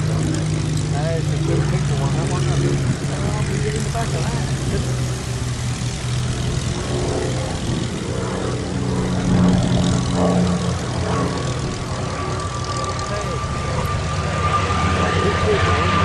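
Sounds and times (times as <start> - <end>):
propeller engine drone: 0.0 - 16.0.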